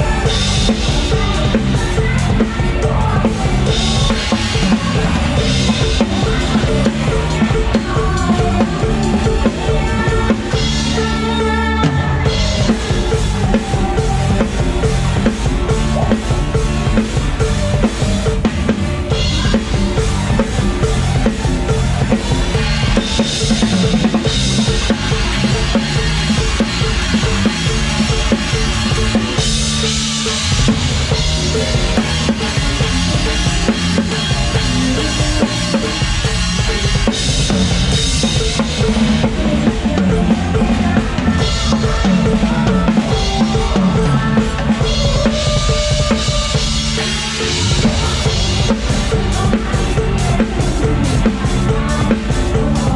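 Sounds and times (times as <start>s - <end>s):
bass: 0.0s - 52.9s
drum kit fast beat: 0.0s - 52.9s
live band music: 0.0s - 52.9s.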